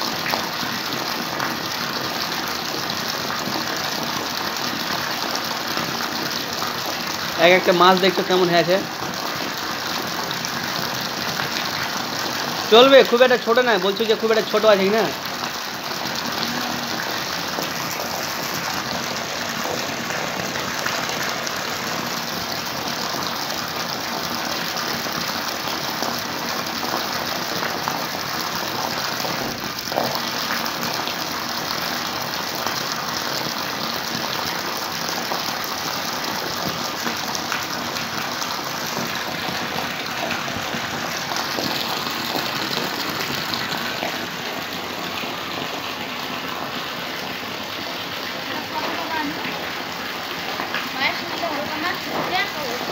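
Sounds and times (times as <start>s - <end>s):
water pouring into tank: 0.0s - 52.9s.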